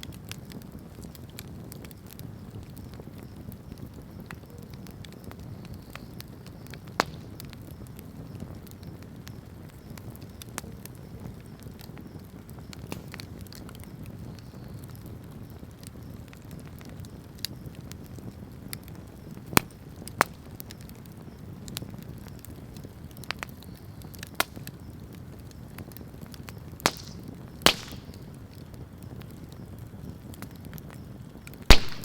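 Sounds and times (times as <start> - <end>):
bonfire crackling: 0.0 - 32.0
sharp pops from fire: 0.0 - 32.0.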